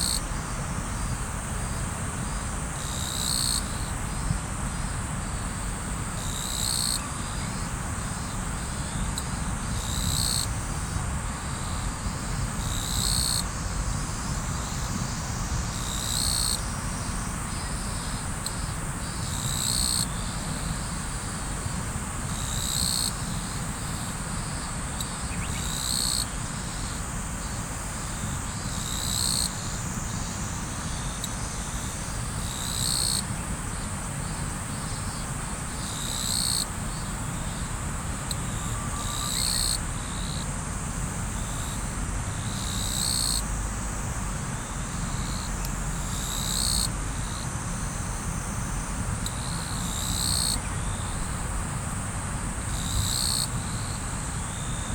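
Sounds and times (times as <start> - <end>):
insect chirping pulse: 0.0 - 54.9
insects trilling: 0.0 - 54.9.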